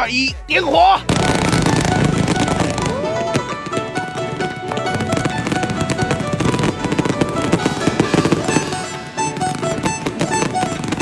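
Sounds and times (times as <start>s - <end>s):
background music: 0.0s - 11.0s
fireworks bangs and pops: 1.0s - 11.0s.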